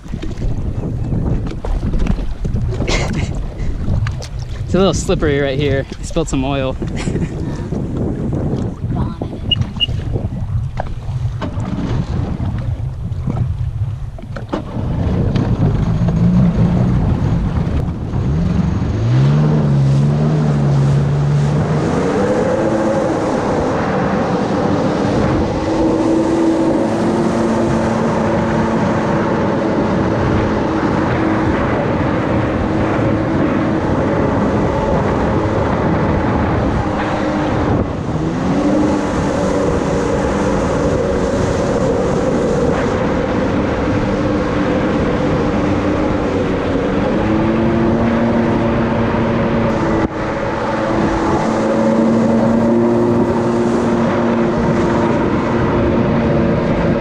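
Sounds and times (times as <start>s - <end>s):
jet ski engine revving: 2.6s - 57.0s.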